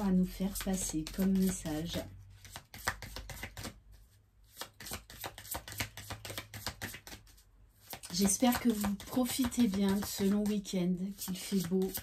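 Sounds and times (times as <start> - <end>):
cards being shuffled: 0.5 - 10.4.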